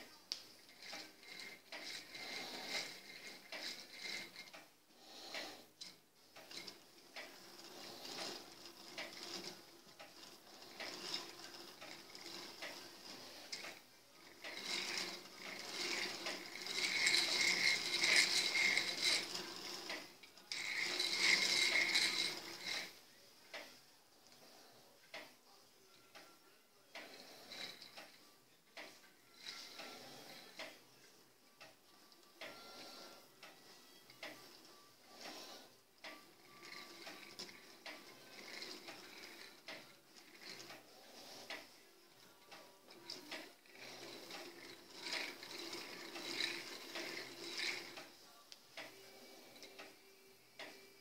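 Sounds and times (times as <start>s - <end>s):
plastic gears clicking: 0.3s - 4.7s, 5.3s - 25.4s, 31.6s - 48.2s.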